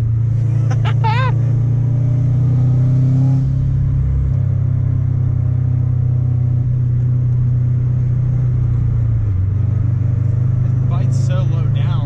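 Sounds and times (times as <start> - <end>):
car engine drone from inside: 0.0 - 12.0.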